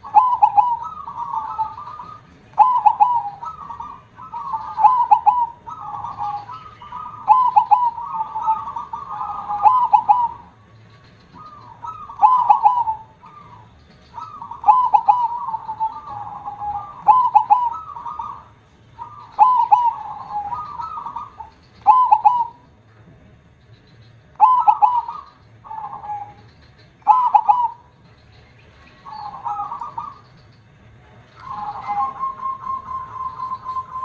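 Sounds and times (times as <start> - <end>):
dove cooing song: 0.0 - 34.0.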